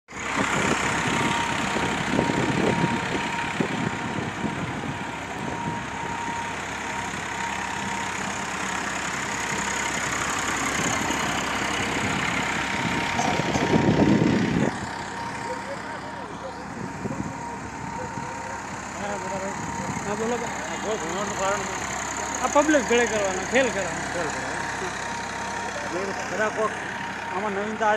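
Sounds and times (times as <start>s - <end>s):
tractor engine running: 0.1s - 27.9s.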